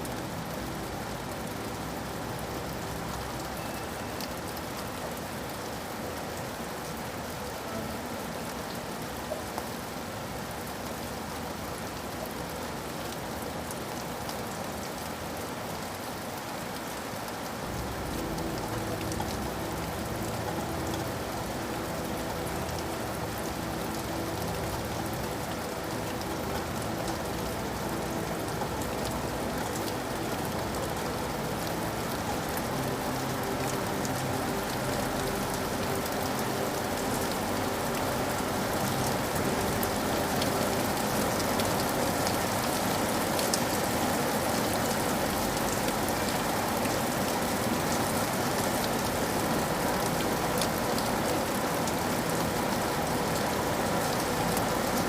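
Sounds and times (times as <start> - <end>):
raindrops crackling on a surface: 0.0 - 55.0
steady rain falling: 0.0 - 55.0.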